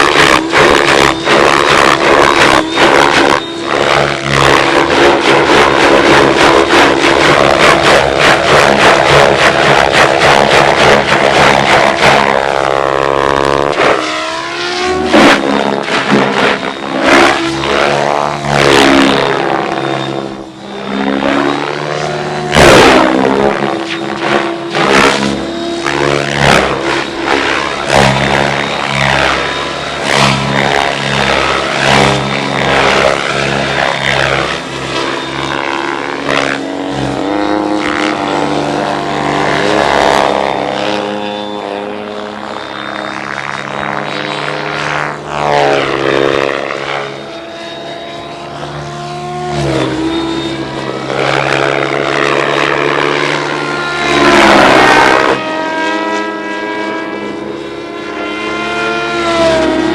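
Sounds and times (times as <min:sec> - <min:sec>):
rc helicopter rotor and motor drone: 0:00.0 - 0:59.9.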